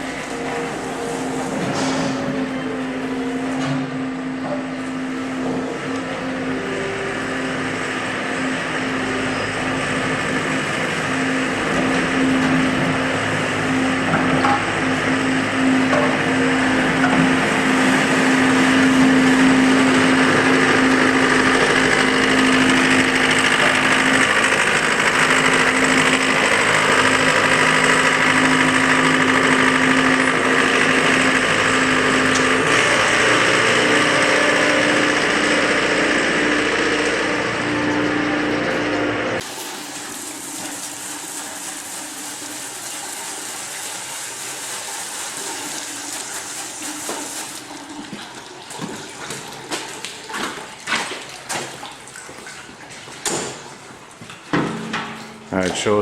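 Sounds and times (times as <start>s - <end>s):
farm machine engine humming: 0.0s - 48.6s.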